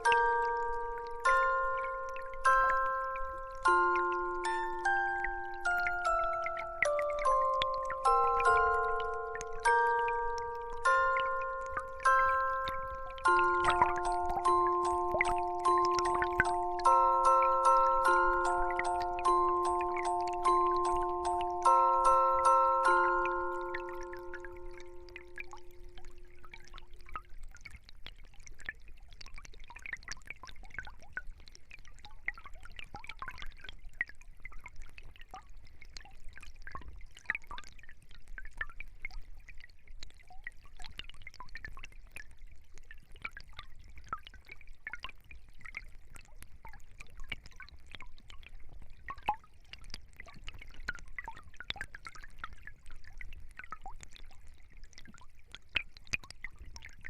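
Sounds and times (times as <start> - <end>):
small stream trickling: 0.0 - 57.0.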